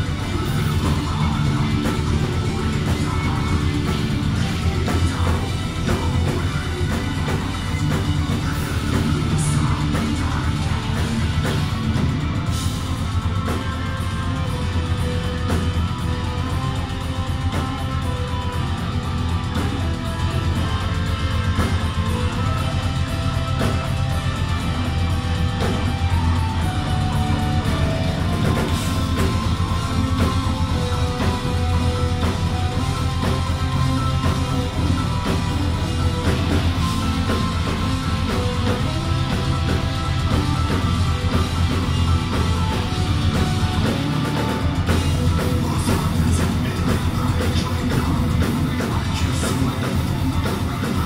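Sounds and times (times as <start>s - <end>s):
distorted electric guitars: 0.0s - 51.0s
drum kit: 0.0s - 51.0s.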